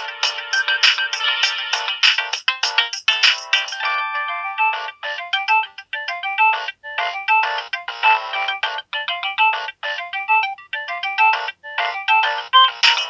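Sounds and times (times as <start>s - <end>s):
polyphonic phone ringtone: 0.0s - 13.0s.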